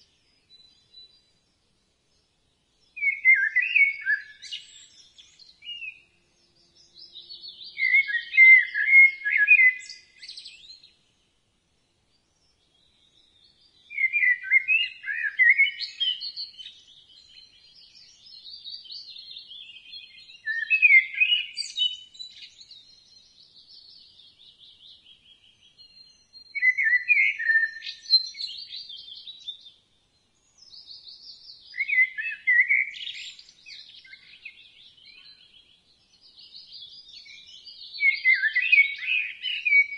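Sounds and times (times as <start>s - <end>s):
blackbird singing: 0.0s - 1.6s, 2.7s - 11.2s, 12.1s - 39.9s.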